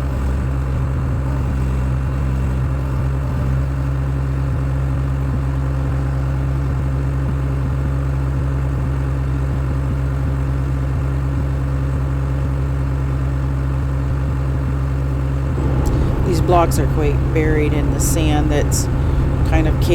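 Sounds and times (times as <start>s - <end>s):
skid steer engine running: 0.0s - 19.9s.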